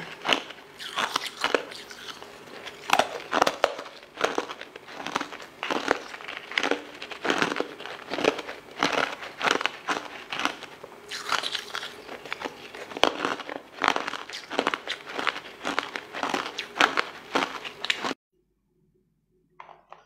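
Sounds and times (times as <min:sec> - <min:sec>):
crunching ice balls: 0:00.0 - 0:18.2.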